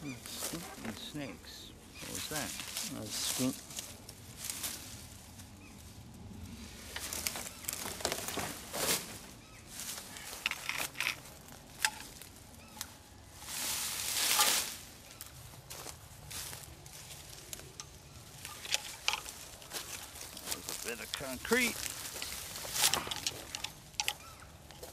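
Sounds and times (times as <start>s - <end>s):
dry leaves rustling and crackling: 0.0s - 24.9s.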